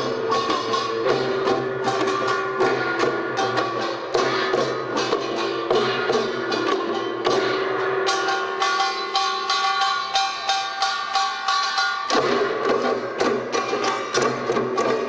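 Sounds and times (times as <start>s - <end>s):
drums beating fast rhythm: 0.0s - 15.0s.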